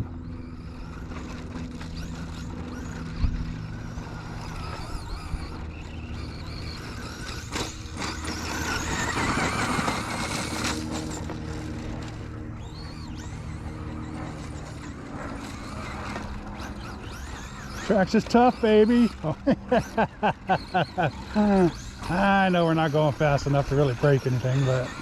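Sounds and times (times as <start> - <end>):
rc truck motor whining: 0.0 - 25.0
tyres on ground: 0.2 - 25.0.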